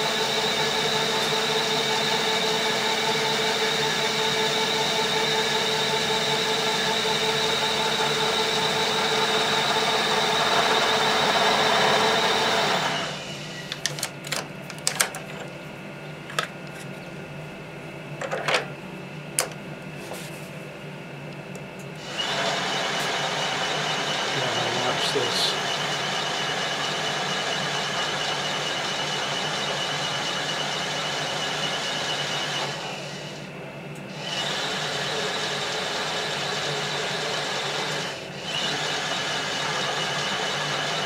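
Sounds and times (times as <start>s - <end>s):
milling machine spindle whine: 0.0s - 19.6s, 20.8s - 41.0s.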